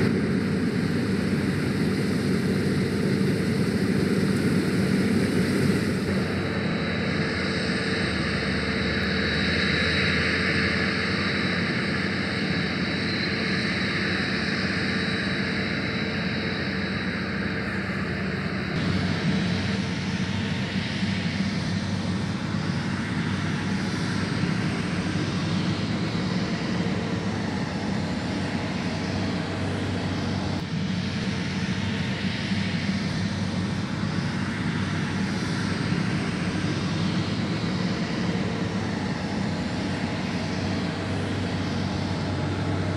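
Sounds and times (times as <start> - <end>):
combine harvester engine droning: 0.0 - 42.9
high whine: 0.0 - 42.9.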